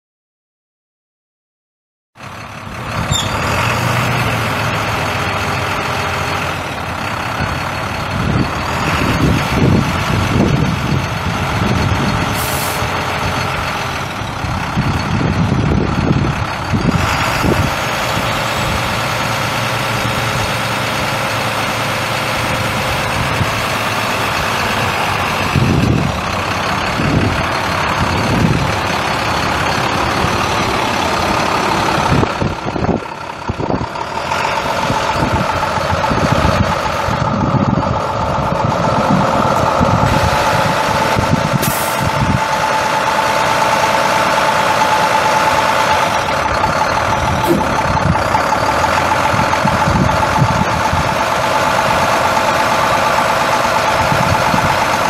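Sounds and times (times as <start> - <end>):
diesel truck engine running: 2.2 - 55.0.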